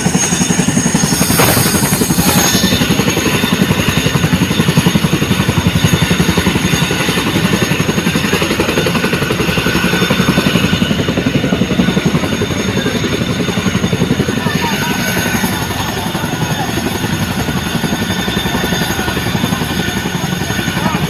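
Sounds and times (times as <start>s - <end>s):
helicopter rotor blades thudding: 0.0s - 21.0s.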